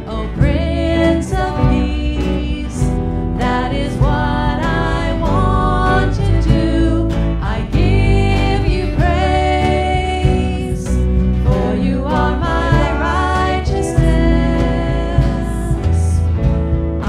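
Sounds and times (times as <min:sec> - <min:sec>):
worship song with band: 0:00.0 - 0:17.0.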